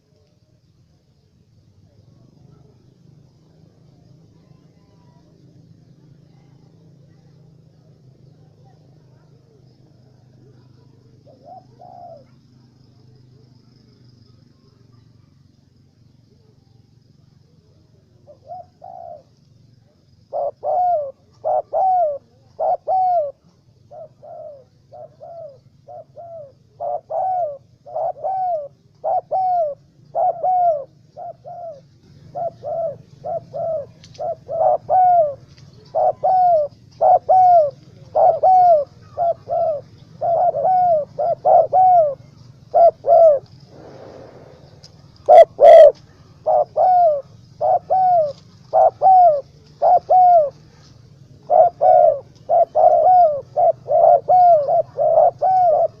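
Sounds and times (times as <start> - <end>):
doves cooing: 1.8 - 56.0.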